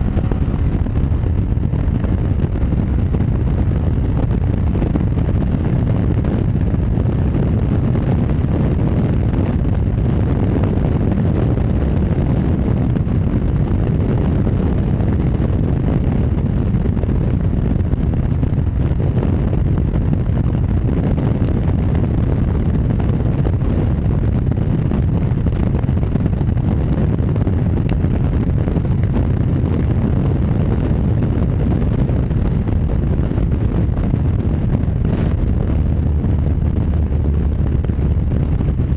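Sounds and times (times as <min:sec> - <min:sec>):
motorcycle engine drone: 0:00.0 - 0:38.9
wind rush on microphone: 0:00.0 - 0:38.9.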